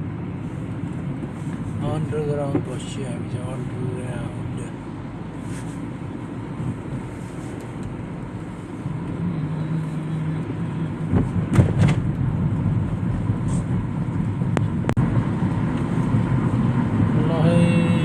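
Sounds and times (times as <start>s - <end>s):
vehicle rumble: 0.0s - 18.0s.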